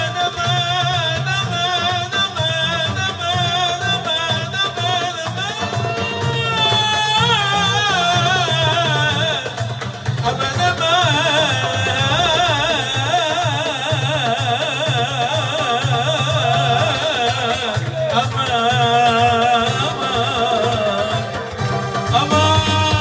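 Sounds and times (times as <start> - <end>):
keyboard accompaniment: 0.0 - 23.0
man singing long-held notes: 0.0 - 23.0
oud: 0.0 - 23.0.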